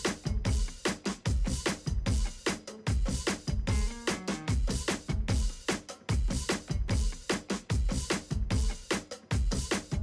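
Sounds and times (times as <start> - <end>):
fast drum beat with kick drum: 0.0 - 10.0.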